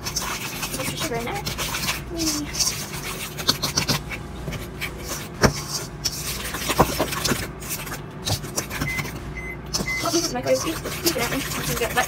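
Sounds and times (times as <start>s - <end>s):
utensil scraping metal bowl: 0.0s - 9.1s, 9.7s - 12.0s.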